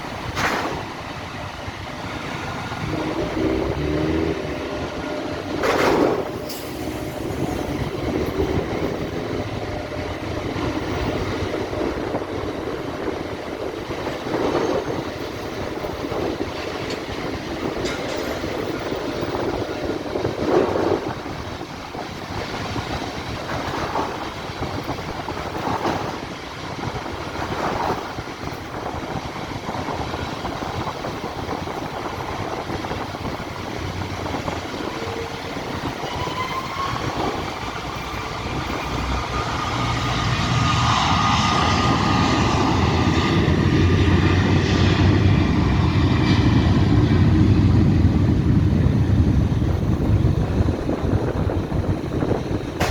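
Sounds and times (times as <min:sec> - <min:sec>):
jet engine whine: 0:00.0 - 0:52.9
low jet rumble: 0:00.0 - 0:52.9
traffic noise: 0:00.0 - 0:52.9.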